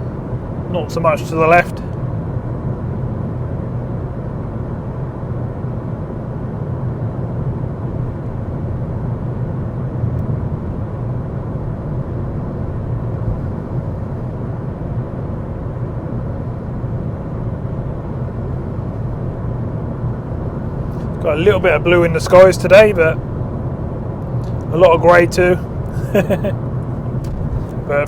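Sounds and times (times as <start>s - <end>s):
car road noise from cabin: 0.0s - 28.0s.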